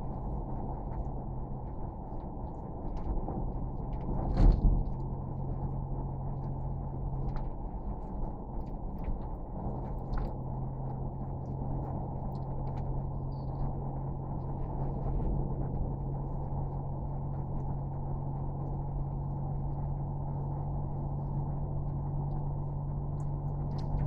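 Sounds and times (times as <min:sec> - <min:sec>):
constant hum: 0:00.0 - 0:24.0
low mechanical rumble: 0:00.0 - 0:24.0.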